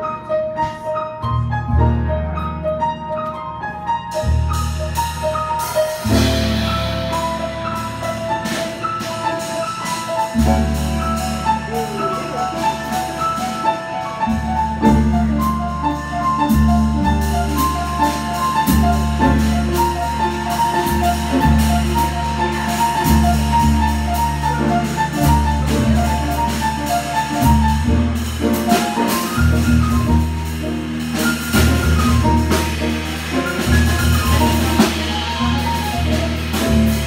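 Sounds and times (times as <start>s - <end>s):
piano playing quick lines: 0.0s - 37.0s
upright bass: 0.6s - 37.0s
drum kit cymbals: 4.1s - 37.0s.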